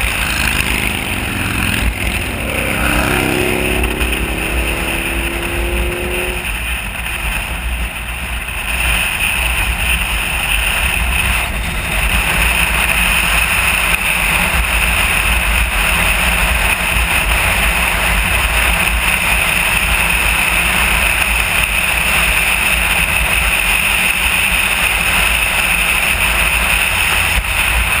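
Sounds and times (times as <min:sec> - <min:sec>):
motorcycle engine rumble: 0:00.0 - 0:28.0
wind and road noise: 0:00.0 - 0:28.0.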